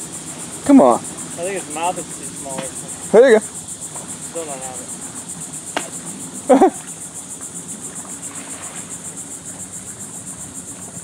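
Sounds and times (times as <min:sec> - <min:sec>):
insects chirping trill: 0:00.0 - 0:11.0.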